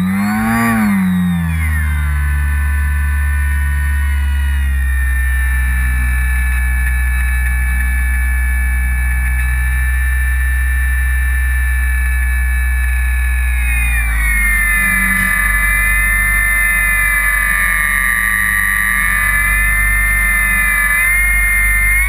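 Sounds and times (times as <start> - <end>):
electric motor and propeller whine: 0.0 - 22.0.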